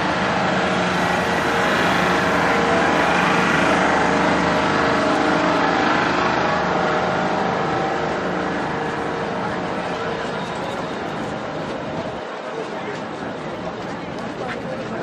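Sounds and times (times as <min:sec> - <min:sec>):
diesel railcar engine humming: 0:00.0 - 0:15.0.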